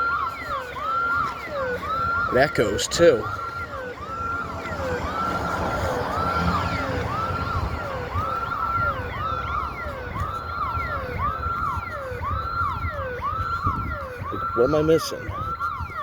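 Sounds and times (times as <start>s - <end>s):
electronic alarm siren: 0.0s - 16.0s.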